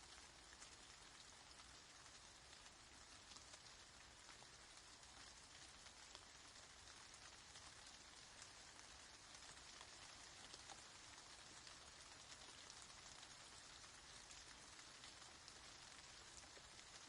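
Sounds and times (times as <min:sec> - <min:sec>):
quiet rain falling: 0:00.0 - 0:17.0.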